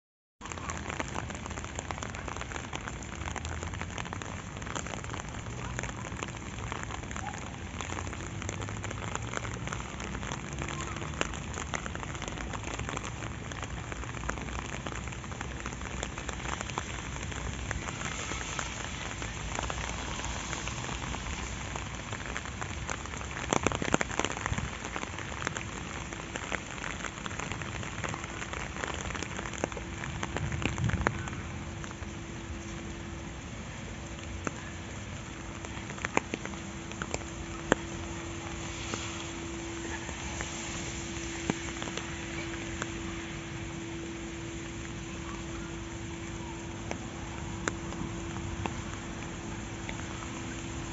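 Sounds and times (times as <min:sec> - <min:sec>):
steady rain on path and grass: 0:00.4 - 0:50.9.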